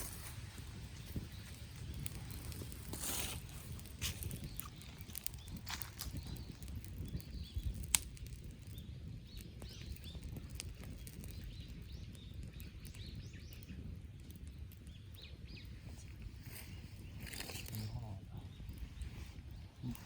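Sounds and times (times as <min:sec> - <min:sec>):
campfire crackling: 0:00.0 - 0:20.0
fire popping: 0:00.0 - 0:20.0.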